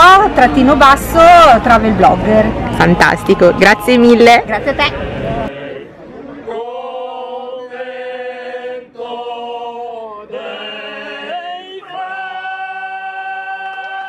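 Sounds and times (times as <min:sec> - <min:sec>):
choir-like singing: 0:02.7 - 0:14.0.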